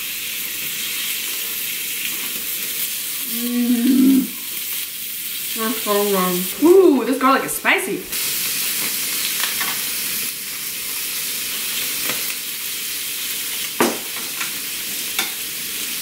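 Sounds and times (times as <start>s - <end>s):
meat sizzling on a grill plate: 0.0s - 16.0s.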